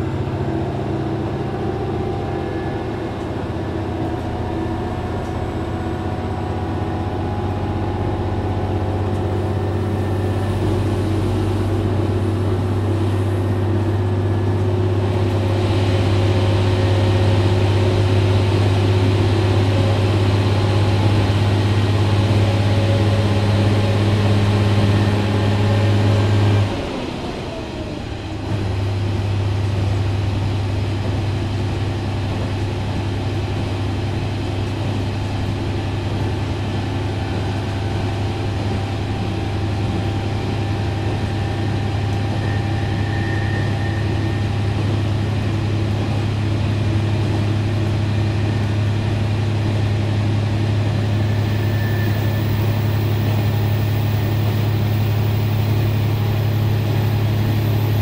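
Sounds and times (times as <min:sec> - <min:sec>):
falling engine whine: 0:00.0 - 0:31.4, 0:36.4 - 0:58.0
diesel railcar engine humming: 0:00.0 - 0:58.0.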